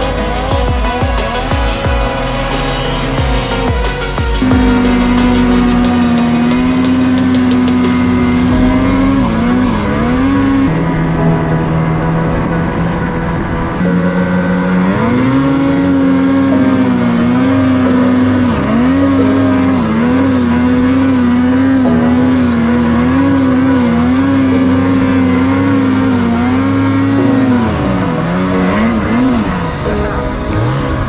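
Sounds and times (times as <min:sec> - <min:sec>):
snowmobile engine revving: 0:00.0 - 0:31.0.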